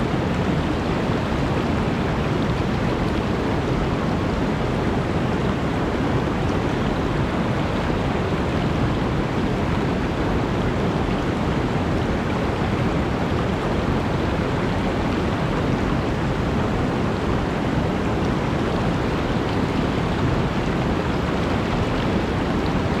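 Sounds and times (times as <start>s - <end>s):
stream water rushing and splashing: 0.0s - 23.0s.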